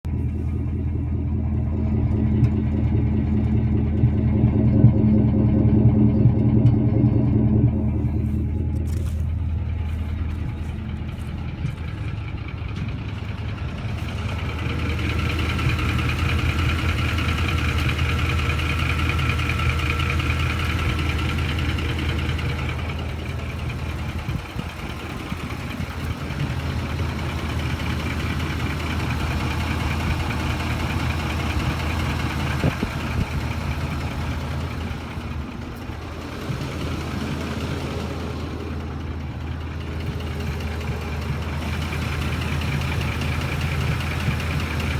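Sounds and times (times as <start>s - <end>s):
engine idling: 0.0s - 44.9s
light engine knocking: 8.6s - 44.9s.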